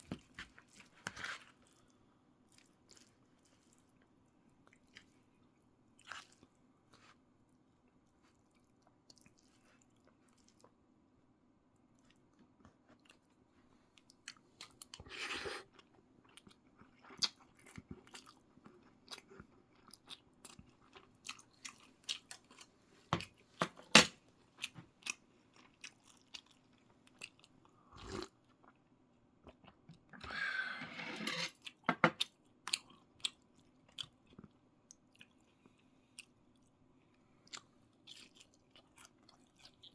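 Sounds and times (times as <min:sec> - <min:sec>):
person chewing and crunching food: 0:00.0 - 0:10.8, 0:11.8 - 0:23.9, 0:24.5 - 0:30.5, 0:31.5 - 0:39.9.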